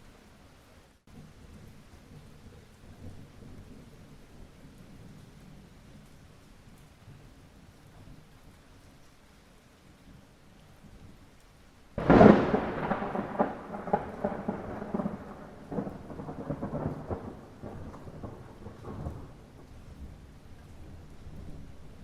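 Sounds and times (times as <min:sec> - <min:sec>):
light rain hiss: 0:00.0 - 0:22.0
thunderclap with crackling rumble: 0:01.1 - 0:08.8, 0:12.0 - 0:22.0.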